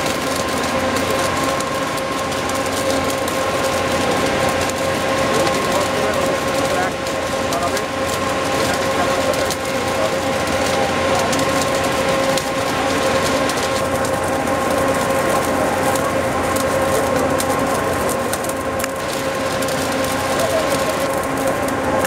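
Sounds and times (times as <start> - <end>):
crackling welding clicks: 0.0 - 22.0
welding machine drone and whine: 0.0 - 22.0.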